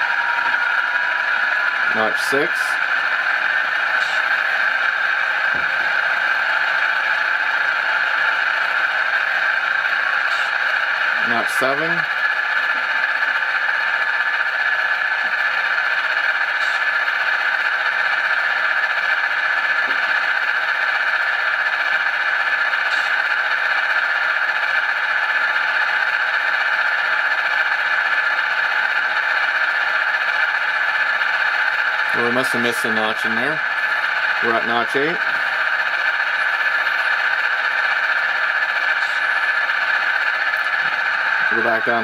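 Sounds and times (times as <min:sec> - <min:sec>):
thin diesel locomotive drone: 0:00.0 - 0:42.0.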